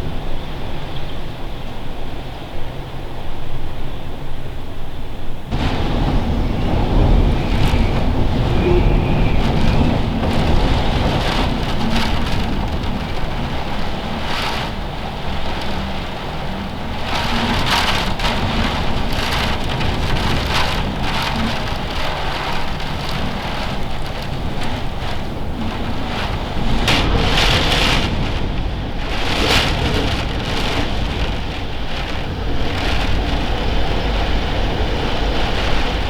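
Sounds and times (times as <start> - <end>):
storm wind gusting on microphone: 0.0 - 36.0.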